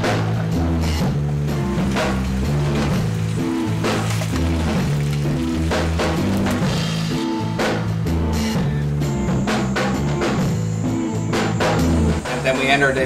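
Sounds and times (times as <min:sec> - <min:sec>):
music with drum beat and bass: 0:00.0 - 0:13.0.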